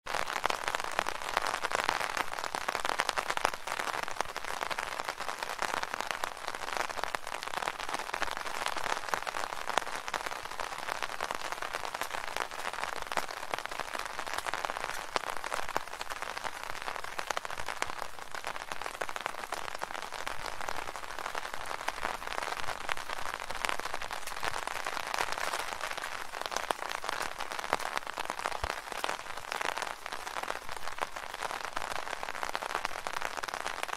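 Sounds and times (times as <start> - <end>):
rain drumming on umbrella: 0.1 - 33.9.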